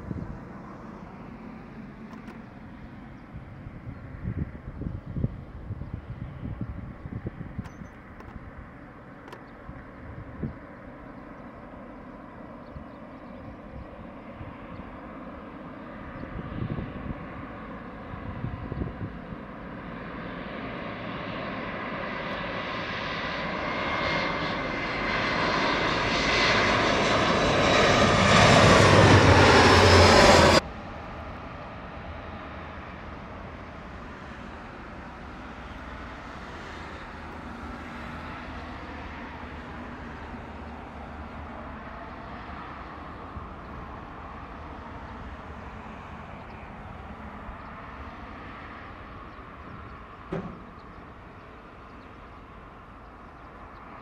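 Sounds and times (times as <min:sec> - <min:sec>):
jet engines whining on approach: 0:00.0 - 0:54.0
jet rumble rolling on runway: 0:00.0 - 0:54.0.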